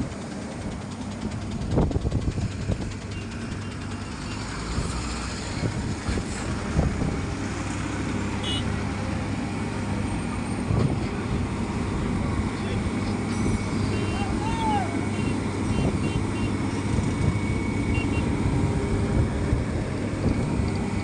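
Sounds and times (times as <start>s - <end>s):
paving machinery diesel rumble: 0.0s - 21.0s.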